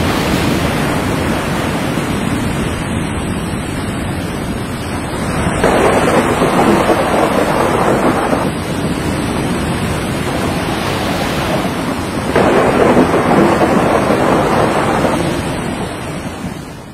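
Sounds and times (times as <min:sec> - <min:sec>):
storm waves crashing: 0:00.0 - 0:16.9.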